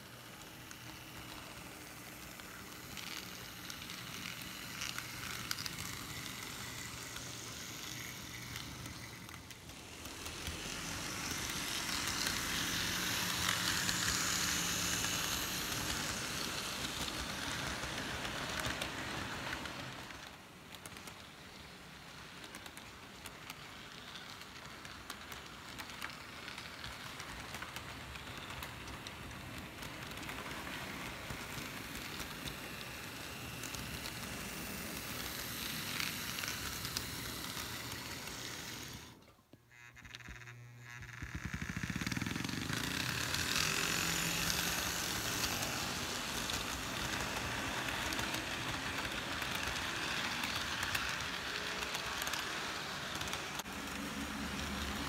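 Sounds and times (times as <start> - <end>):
model train wheels clattering: 0.0 - 55.0.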